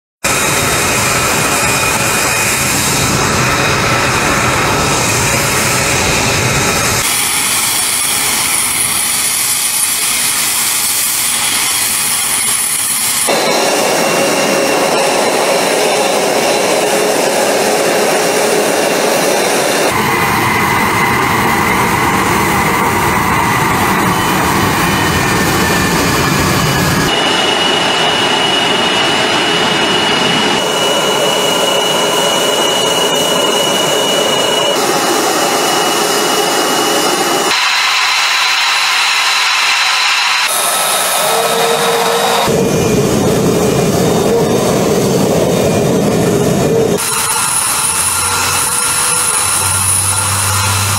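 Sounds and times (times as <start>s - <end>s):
jet engines running: 0.2s - 50.9s.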